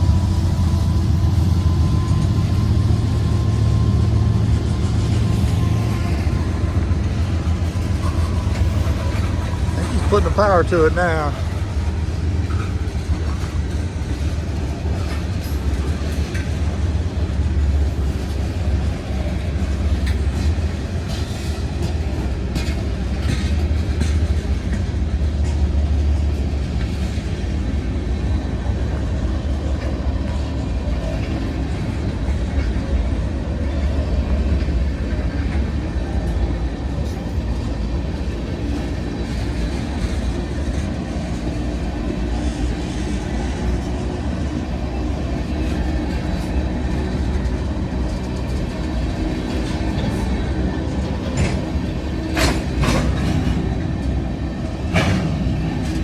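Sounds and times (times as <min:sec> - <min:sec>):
diesel locomotive rumble: 0:00.0 - 0:56.0
train wheels clattering on rails: 0:00.0 - 0:56.0.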